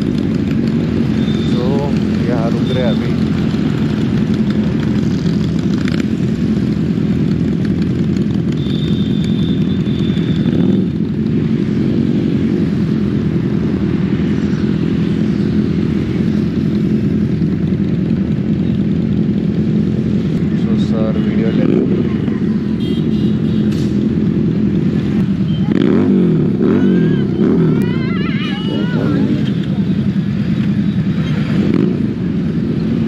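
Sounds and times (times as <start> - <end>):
motorcycle engine cruising: 0.0 - 33.0.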